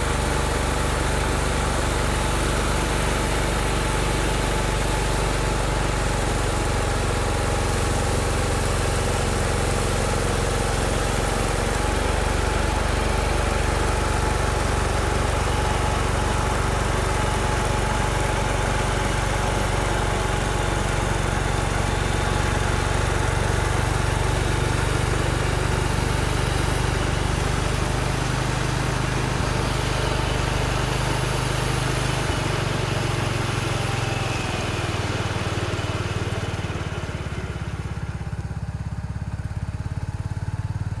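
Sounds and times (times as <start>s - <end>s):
tractor engine droning: 0.0s - 40.6s
snowthrower working: 0.0s - 40.8s.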